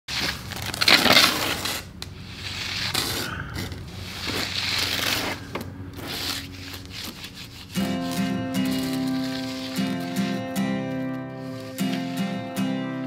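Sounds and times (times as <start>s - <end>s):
trowel scraping wet concrete: 0.1s - 12.5s.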